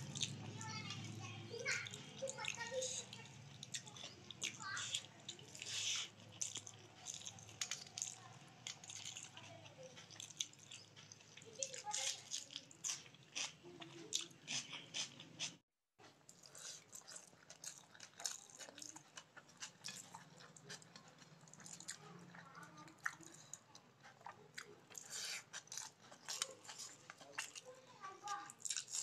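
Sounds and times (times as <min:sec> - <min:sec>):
wet chewing and lip smacks: 0:01.8 - 0:15.6, 0:16.2 - 0:29.0.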